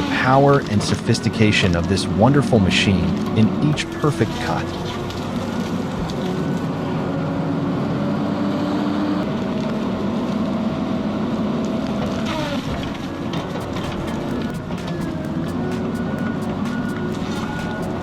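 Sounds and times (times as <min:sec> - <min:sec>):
machine whine: 0:00.0 - 0:18.0
tree-cutting machine engine: 0:00.0 - 0:18.0.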